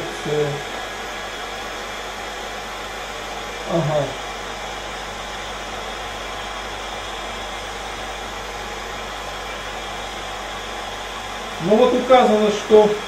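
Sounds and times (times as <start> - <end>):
heat gun fan blowing air: 0.0 - 13.0.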